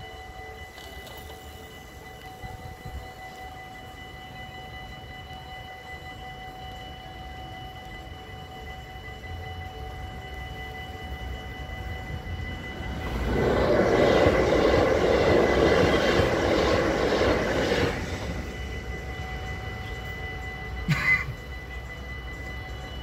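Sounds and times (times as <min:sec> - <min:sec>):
crossing warning bells ringing: 0:00.0 - 0:23.0
train passing: 0:00.0 - 0:23.0.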